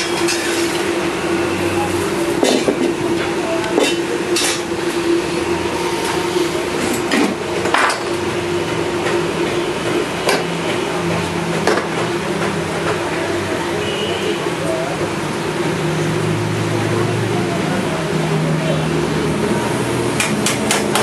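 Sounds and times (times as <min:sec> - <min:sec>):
steady hum: 0:00.0 - 0:20.6.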